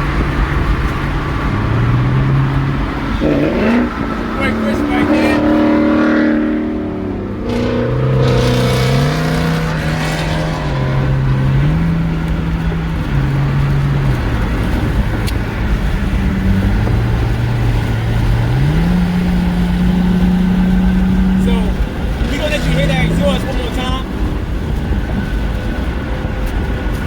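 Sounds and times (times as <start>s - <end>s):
car engine drone: 0.0s - 27.0s
road noise: 0.0s - 27.0s.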